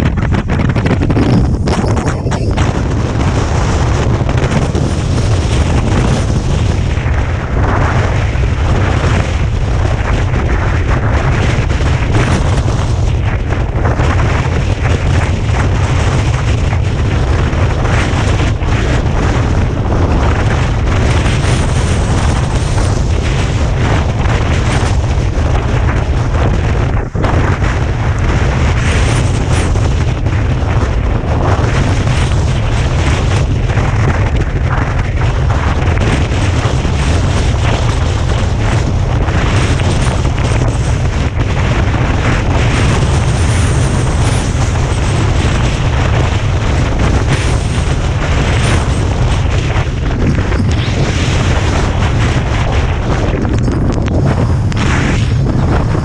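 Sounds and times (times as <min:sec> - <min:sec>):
strong wind on microphone: 0:00.0 - 0:56.0.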